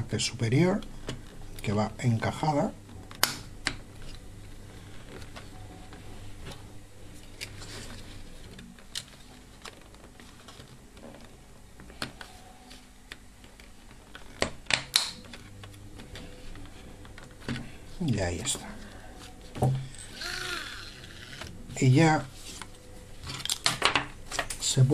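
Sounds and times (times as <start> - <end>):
faint low hum: 0.0 - 24.9.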